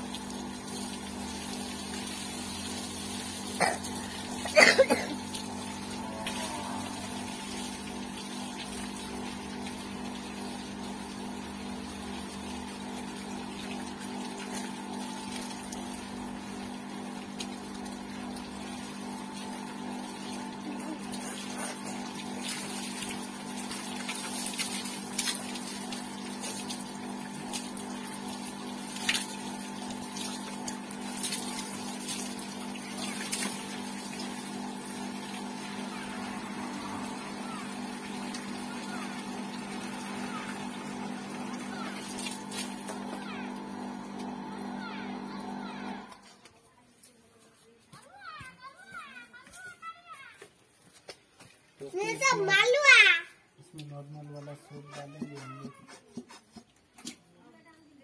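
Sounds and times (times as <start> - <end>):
water pump humming: 0.0 - 47.0, 50.8 - 57.2
hose water splashing: 0.0 - 48.1.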